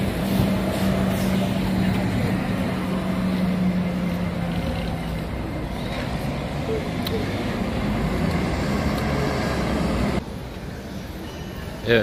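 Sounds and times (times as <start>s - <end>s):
low vehicle engine hum: 0.0s - 11.2s
road noise of passing vehicles: 0.0s - 12.0s.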